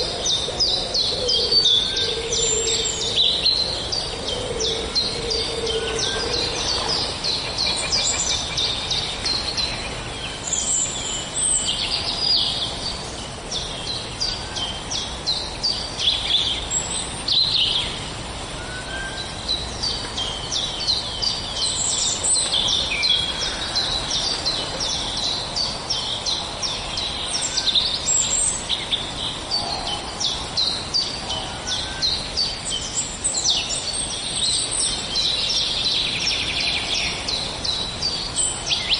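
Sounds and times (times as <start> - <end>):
small birds chirping chorus: 0.0 - 38.9
steady background hiss: 0.0 - 38.9.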